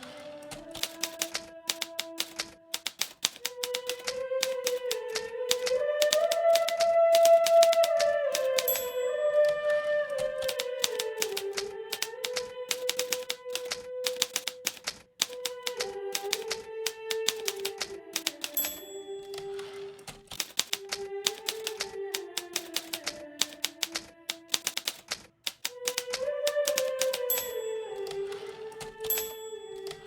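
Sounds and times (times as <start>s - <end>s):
typewriter carriage sliding: 0.0s - 9.0s, 10.4s - 30.0s
typewriter key strikes: 0.1s - 9.1s, 10.4s - 30.0s
typewriter bell ring: 0.2s - 30.0s.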